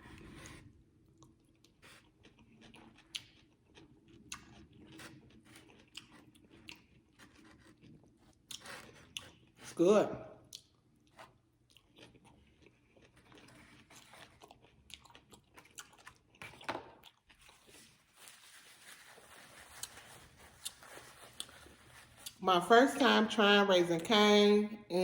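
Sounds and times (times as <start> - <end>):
person chewing food: 0.0 - 9.8, 10.4 - 22.4.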